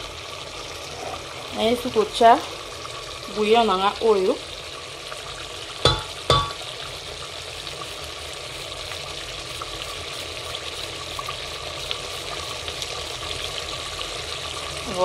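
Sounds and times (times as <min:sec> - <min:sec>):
sauce simmering and bubbling: 0:00.0 - 0:15.0.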